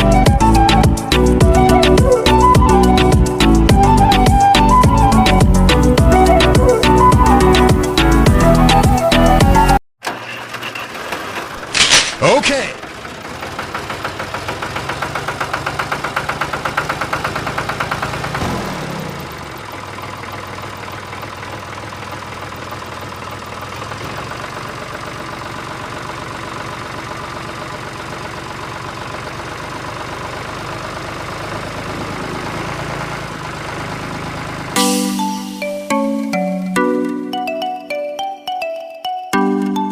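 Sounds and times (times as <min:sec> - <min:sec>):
engine running: 0:00.0 - 0:36.6.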